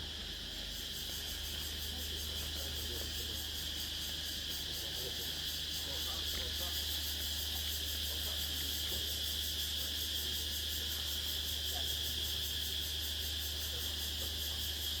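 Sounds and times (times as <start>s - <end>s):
insect pulsing buzz: 0.0s - 15.0s
insects trilling: 0.0s - 15.0s.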